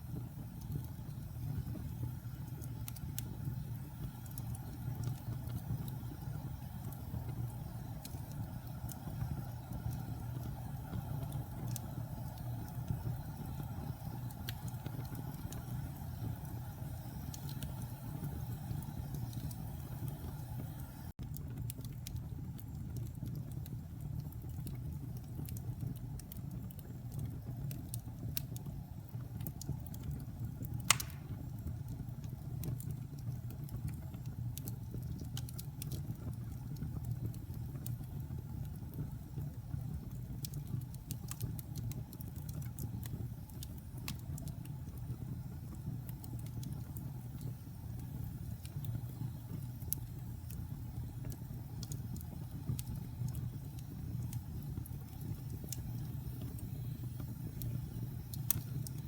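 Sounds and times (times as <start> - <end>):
wood fire crackling: 0.0 - 59.0
fire pops: 0.1 - 59.0.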